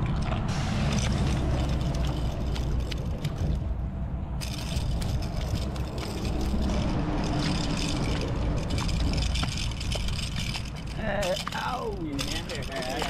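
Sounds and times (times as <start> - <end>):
small clicks and ticks: 0.0 - 3.6, 4.4 - 13.0
wind rumble: 0.0 - 13.0.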